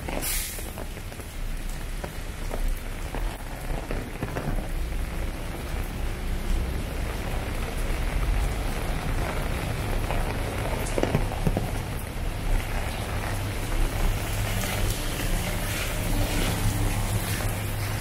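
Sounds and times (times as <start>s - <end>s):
rain on wet pavement: 0.0s - 18.0s
road traffic rumble: 0.0s - 18.0s.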